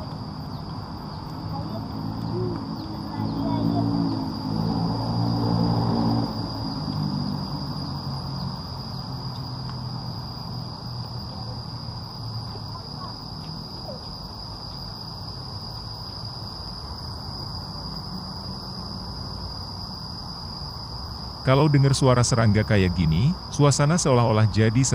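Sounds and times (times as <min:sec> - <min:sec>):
insects droning: 0:00.0 - 0:24.9.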